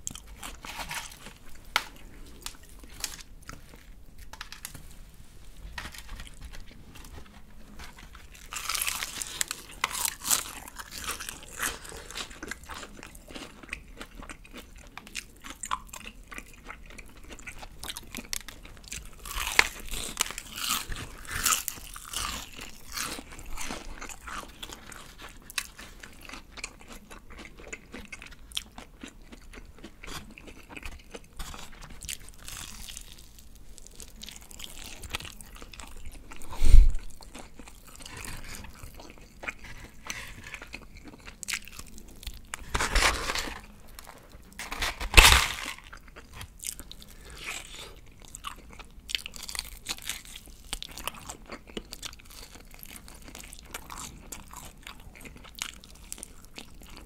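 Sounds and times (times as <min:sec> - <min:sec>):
crunchy fried chicken chewing: 0:00.0 - 0:04.9, 0:05.6 - 0:57.0.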